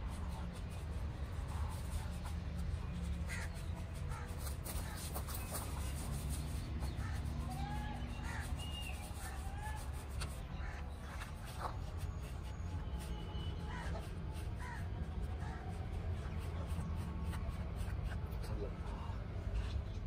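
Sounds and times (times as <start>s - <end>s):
paintbrush scratching on cement: 0.0s - 19.8s
birds calling: 0.3s - 20.0s.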